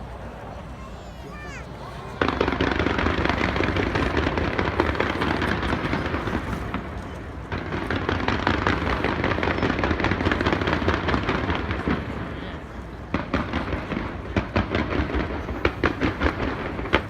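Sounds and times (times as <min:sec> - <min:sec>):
fireworks crackling and banging: 0:01.3 - 0:17.0.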